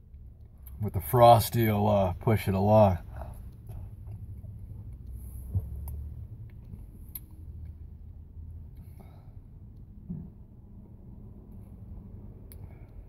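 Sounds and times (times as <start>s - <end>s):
low car interior hum: 0.0s - 13.0s.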